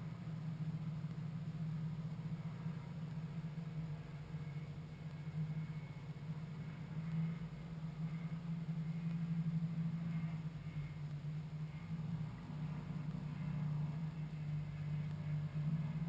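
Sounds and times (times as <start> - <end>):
aircraft engine idling drone: 0.0 - 16.0.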